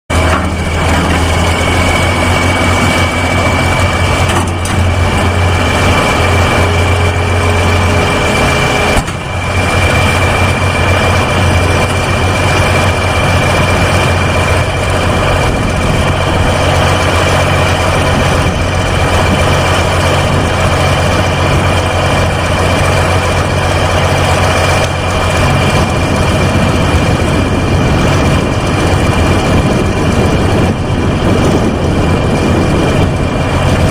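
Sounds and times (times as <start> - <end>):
diesel engine humming: 0.1 - 33.9
high whine: 0.1 - 33.9.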